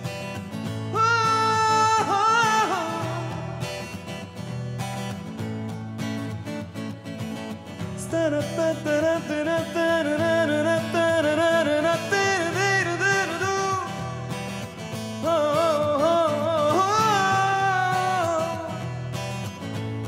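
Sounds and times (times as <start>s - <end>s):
man singing pop melody: 0.0s - 20.0s
strummed acoustic guitar: 0.0s - 20.0s.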